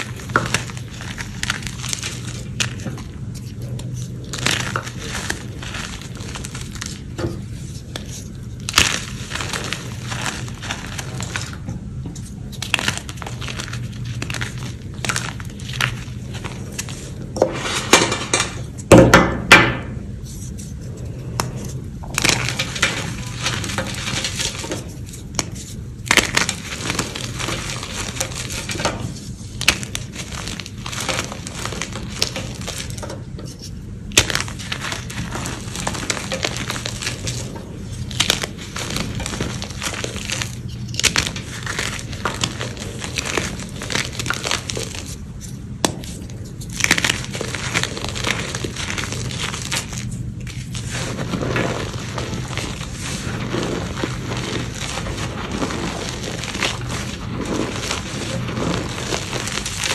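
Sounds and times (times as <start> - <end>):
chalk crunching by hand: 0.0 - 11.6, 20.2 - 59.9
steady low hum: 0.0 - 59.9.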